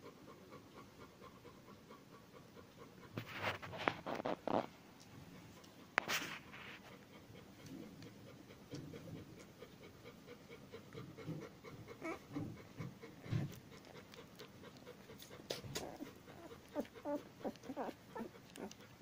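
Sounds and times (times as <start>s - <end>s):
dog panting softly: 0.0s - 19.0s.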